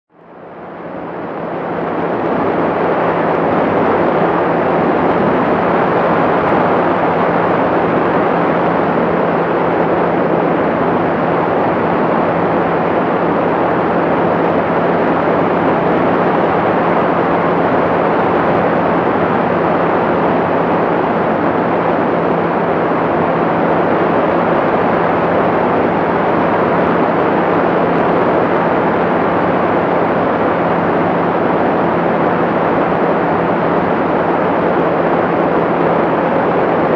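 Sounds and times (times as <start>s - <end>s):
light aircraft engine: 0.1s - 36.9s.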